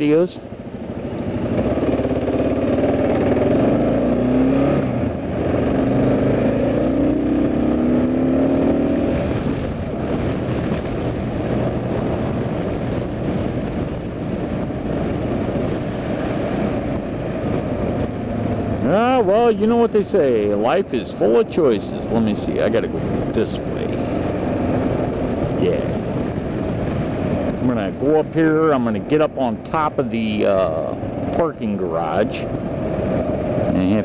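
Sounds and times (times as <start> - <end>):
motorcycle engine accelerating: 0.0 - 34.0
wind noise: 0.0 - 34.0.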